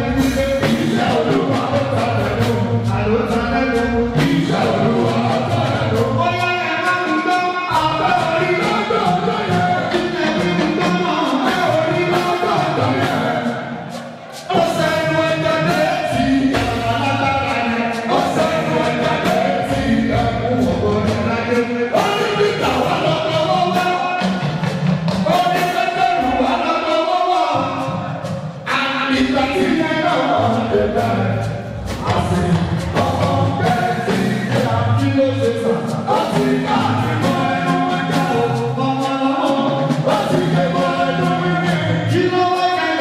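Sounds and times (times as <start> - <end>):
group singing gospel: 0.0 - 43.0
hand percussion: 0.0 - 43.0.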